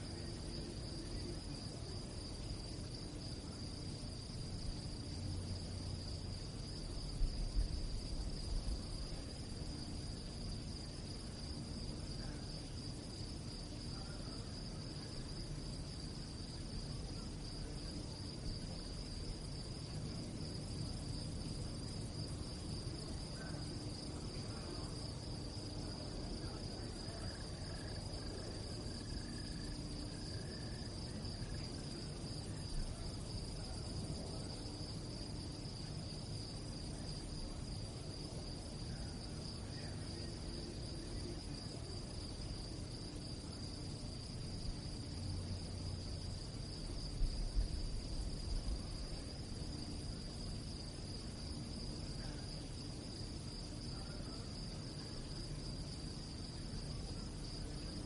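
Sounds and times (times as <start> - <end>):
crickets chirping: 0.0 - 58.0
low background rumble: 0.0 - 58.0.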